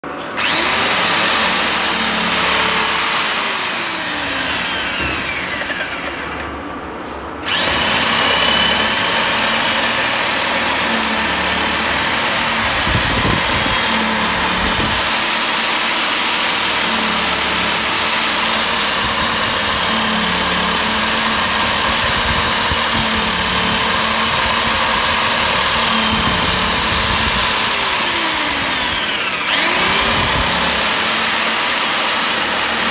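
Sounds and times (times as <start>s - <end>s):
electric drill motor whining: 0.0s - 6.5s, 7.4s - 32.9s.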